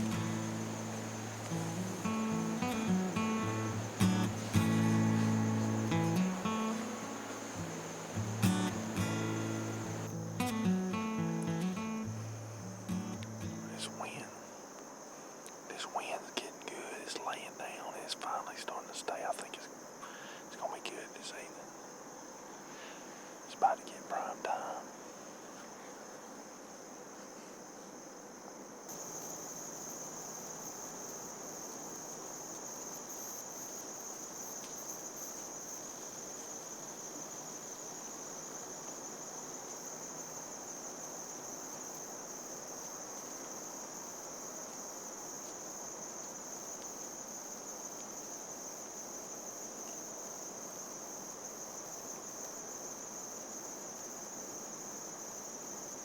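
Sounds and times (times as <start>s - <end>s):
insects chirring: 0.0s - 56.0s
soft background hiss: 0.0s - 56.0s.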